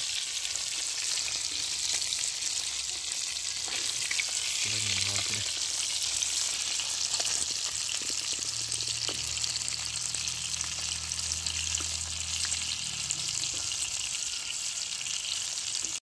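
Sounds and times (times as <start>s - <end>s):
spring rolls sizzling in oil: 0.0s - 16.0s
oil crackling: 0.1s - 16.0s.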